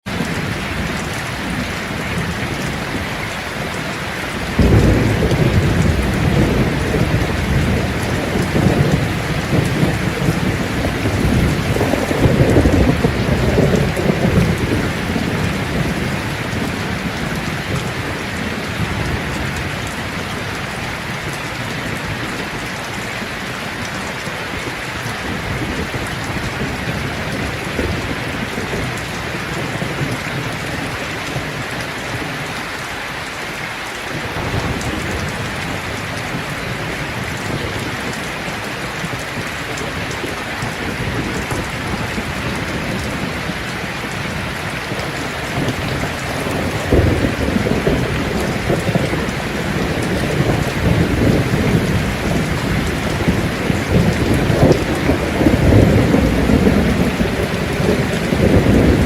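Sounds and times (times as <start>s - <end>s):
heavy rain: 0.0s - 59.0s
thunder rumbling: 0.1s - 32.3s, 34.1s - 59.0s.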